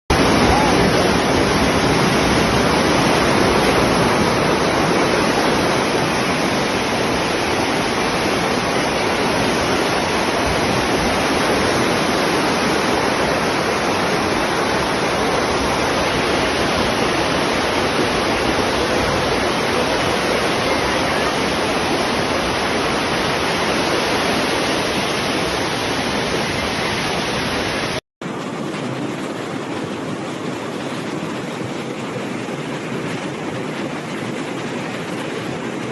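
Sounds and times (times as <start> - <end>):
floodwater rushing in river: 0.1 - 35.9.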